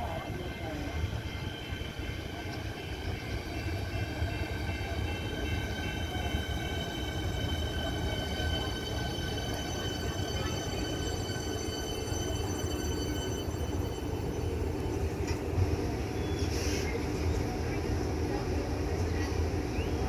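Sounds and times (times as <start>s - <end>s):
electric train traction whine: 0.0s - 16.2s
train wheels rumbling on track: 0.0s - 20.0s.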